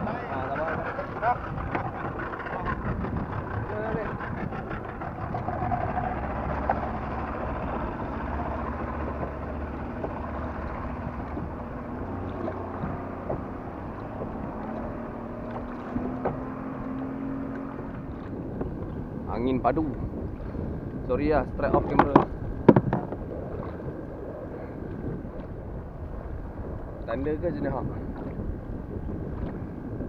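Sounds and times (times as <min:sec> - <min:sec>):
motorboat engine running: 0:00.0 - 0:30.0
water lapping: 0:00.0 - 0:30.0
wind: 0:00.0 - 0:30.0.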